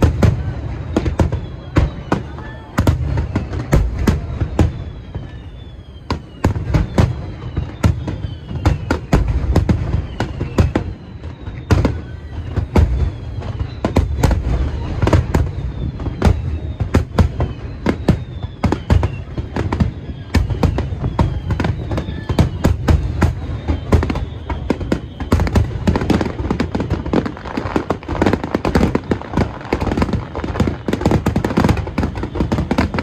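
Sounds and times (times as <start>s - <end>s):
falling firework whistles: 0.0s - 33.0s
fireworks cracks and bangs: 0.0s - 33.0s.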